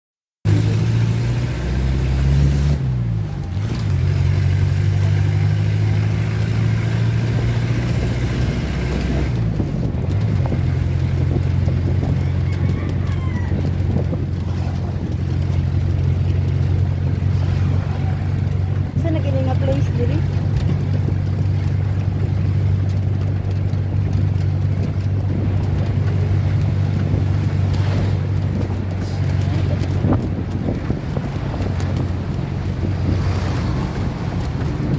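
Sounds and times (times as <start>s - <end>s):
road and wind noise: 0.5s - 34.9s
vehicle engine running: 0.5s - 34.9s.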